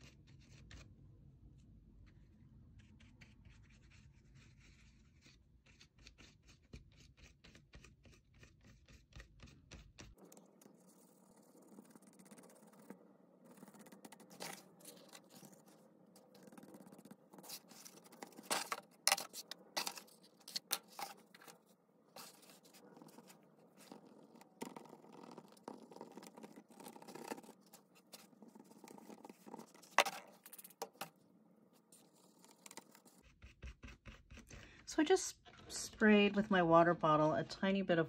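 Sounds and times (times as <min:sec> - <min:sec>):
crayon scratching on cardstock: 0:02.8 - 0:31.1, 0:31.8 - 0:35.0.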